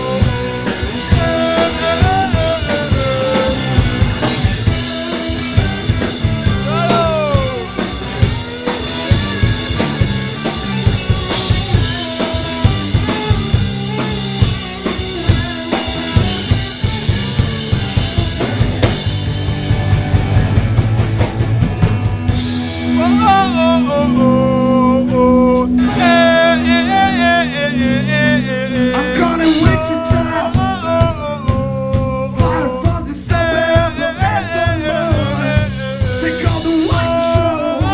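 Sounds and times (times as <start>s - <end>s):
high lead guitar line: 0.0s - 37.9s
rock band playing: 0.0s - 37.9s.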